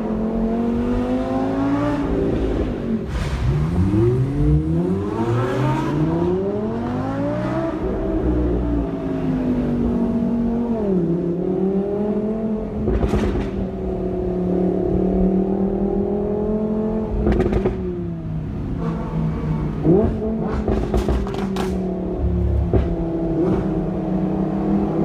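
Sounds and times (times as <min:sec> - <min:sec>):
sports car engine revving: 0:00.0 - 0:25.0.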